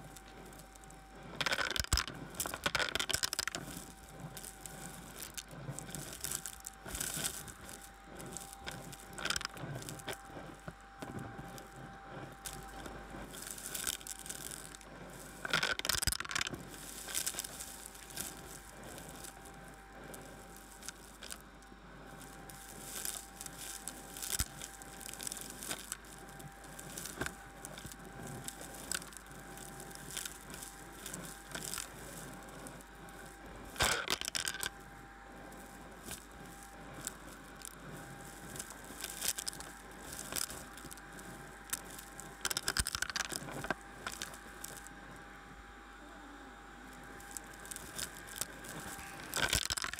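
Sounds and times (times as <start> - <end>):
debris crackling up vacuum wand: 0.0 - 45.0, 46.8 - 49.9
vacuum cleaner whine: 0.0 - 49.9.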